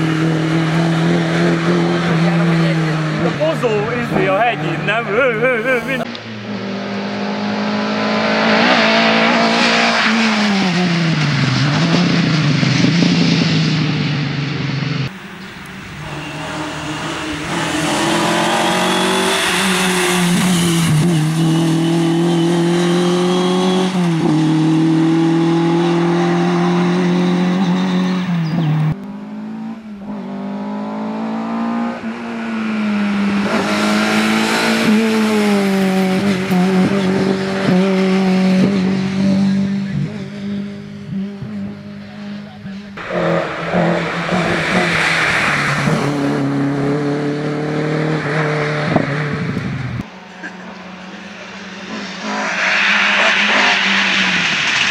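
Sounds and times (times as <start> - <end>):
rally car engine revving hard: 0.0 - 15.1, 16.0 - 54.9.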